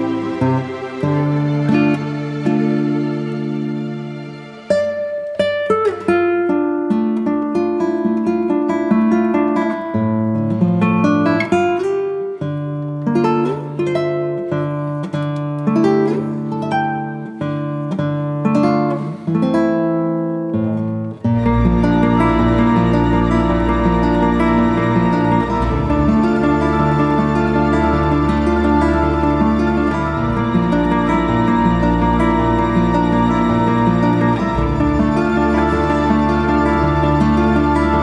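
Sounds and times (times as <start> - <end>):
plucked acoustic guitar melody: 0.0 - 38.0.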